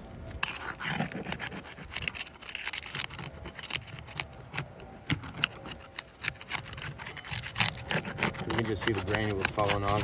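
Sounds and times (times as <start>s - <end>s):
metal tool scraping under shingles: 0.0s - 10.0s
shingles clicking and cracking: 0.4s - 10.0s.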